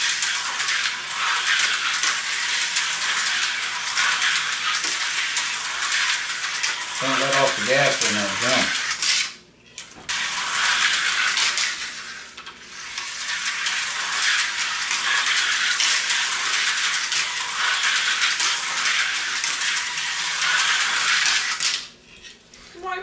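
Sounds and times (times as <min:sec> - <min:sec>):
slot car motor whirring: 0:00.0 - 0:09.4, 0:10.1 - 0:22.2.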